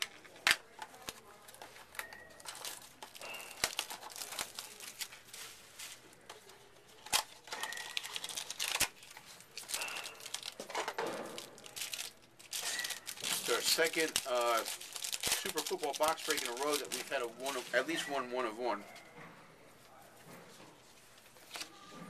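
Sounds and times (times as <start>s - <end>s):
wrapper crinkling and tearing: 0.0s - 18.2s.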